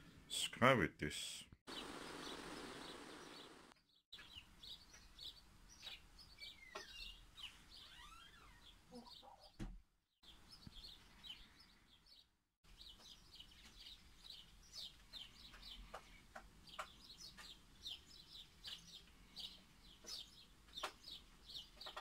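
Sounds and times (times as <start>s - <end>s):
small birds chirping: 1.3s - 9.6s, 10.2s - 22.0s.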